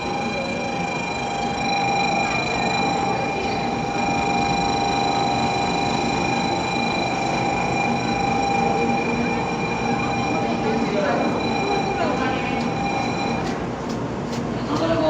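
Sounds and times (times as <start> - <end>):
steady electronic tone: 0.0 - 13.5
station platform noise: 0.0 - 15.0.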